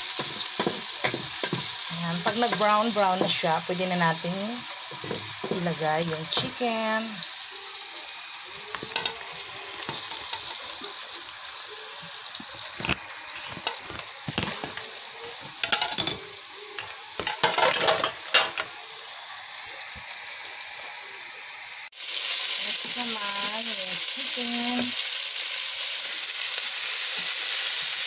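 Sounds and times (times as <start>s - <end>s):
chicken sizzling in oil: 0.0s - 28.0s.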